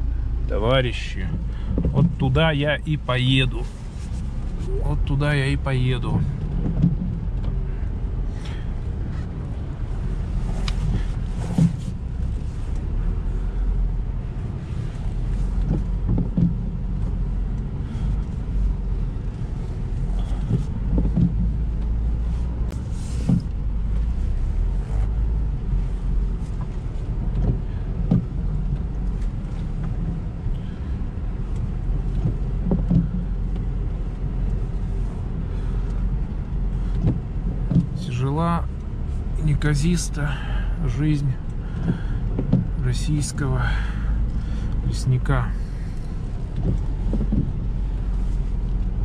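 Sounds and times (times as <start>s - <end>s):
car engine running at low speed: 0.0s - 49.0s
knocks and thumps over bumps: 1.0s - 2.6s, 6.0s - 13.2s, 13.8s - 39.3s, 41.3s - 49.0s.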